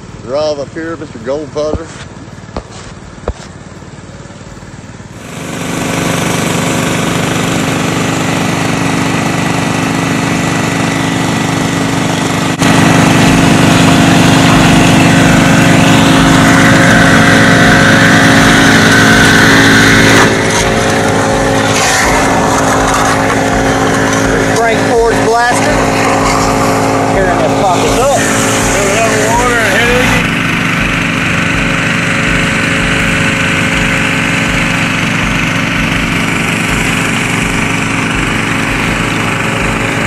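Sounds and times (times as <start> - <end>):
small gasoline engine running: 0.0 - 40.0.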